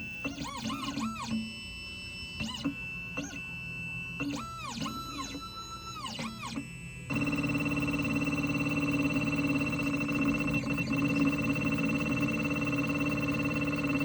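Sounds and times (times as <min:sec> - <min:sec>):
steady motor hum: 0:00.0 - 0:14.0.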